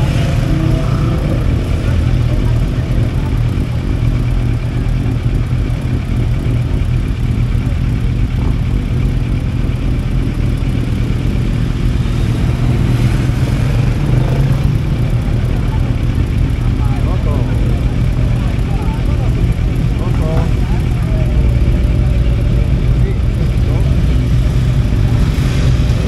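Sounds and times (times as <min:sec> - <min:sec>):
motorcycle engines idling: 0:00.0 - 0:26.0.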